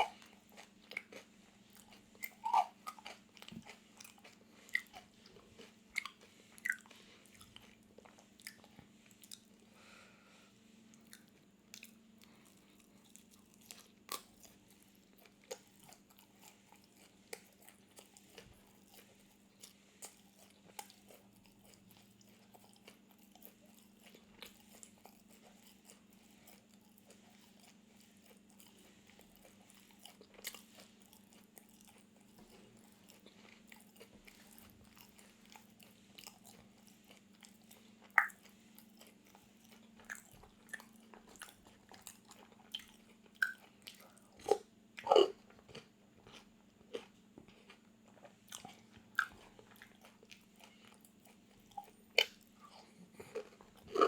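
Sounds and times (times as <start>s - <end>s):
crunchy biting and chewing: 0.0s - 9.5s, 11.0s - 54.0s.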